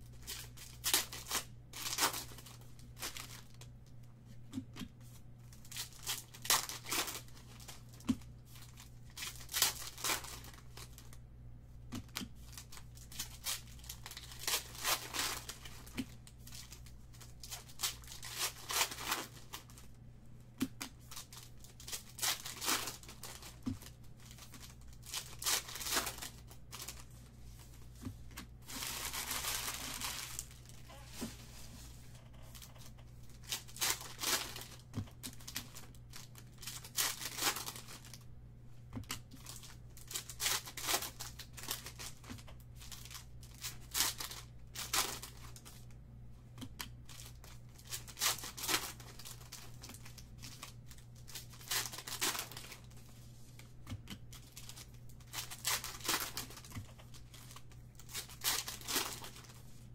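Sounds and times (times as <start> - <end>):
low steady hum: 0.0 - 59.9
foil packs tearing and crinkling: 0.2 - 3.7, 5.6 - 11.2, 12.1 - 19.8, 20.9 - 27.1, 28.6 - 30.9, 32.4 - 38.2, 39.0 - 45.8, 47.1 - 52.9, 54.3 - 59.6.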